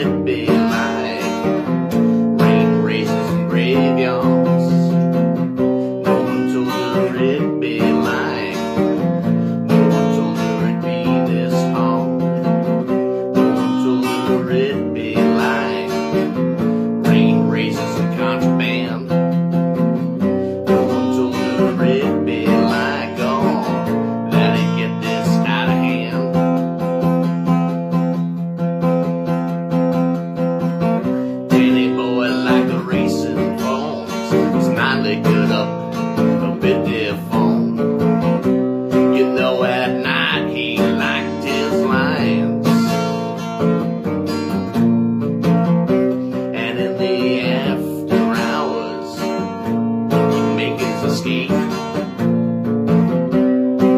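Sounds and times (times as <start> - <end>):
acoustic guitar strumming chords: 0.0 - 53.9.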